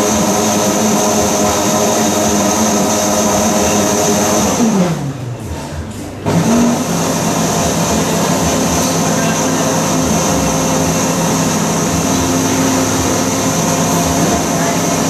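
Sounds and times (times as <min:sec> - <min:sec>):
blender motor running: 0:00.0 - 0:05.2, 0:06.2 - 0:15.0.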